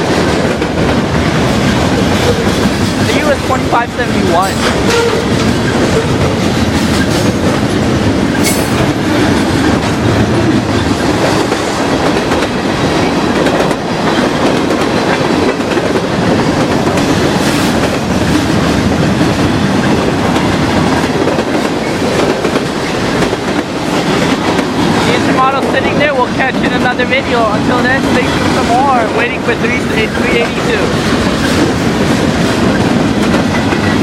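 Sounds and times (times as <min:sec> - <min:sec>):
railcars rumbling: 0:00.0 - 0:34.0.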